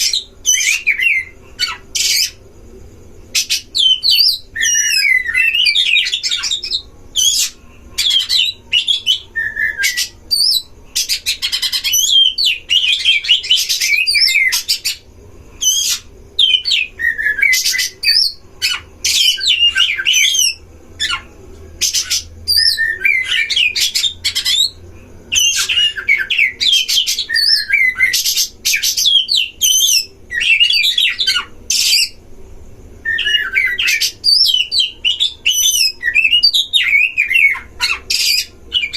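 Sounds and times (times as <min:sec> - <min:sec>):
bird song with whistles and rasps: 0:00.0 - 0:02.4, 0:03.3 - 0:32.2, 0:33.0 - 0:38.9.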